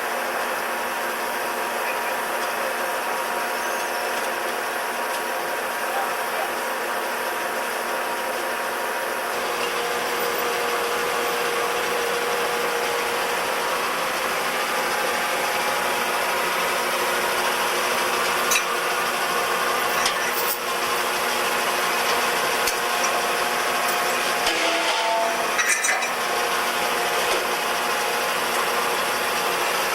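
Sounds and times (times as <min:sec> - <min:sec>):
concrete pump droning: 0:00.0 - 0:29.9.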